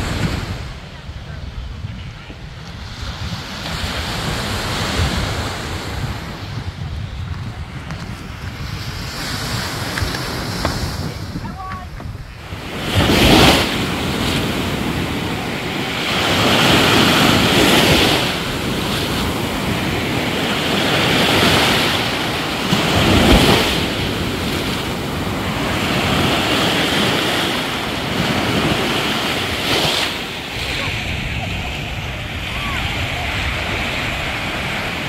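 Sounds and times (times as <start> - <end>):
small waves breaking on a beach: 0.0 - 35.0.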